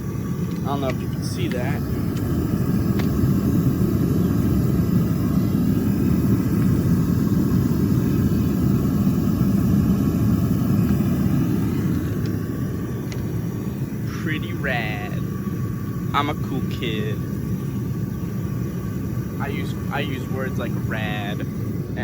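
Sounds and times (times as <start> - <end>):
burner rushing rumble: 0.0 - 22.0.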